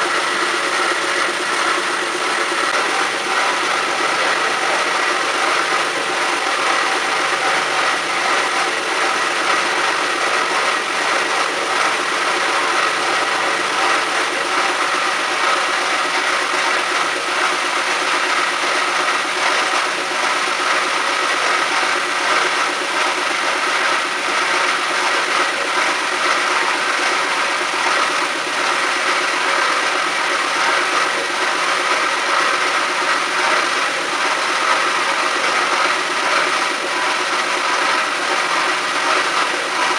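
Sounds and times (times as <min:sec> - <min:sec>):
band saw whirring: 0:00.0 - 0:39.9.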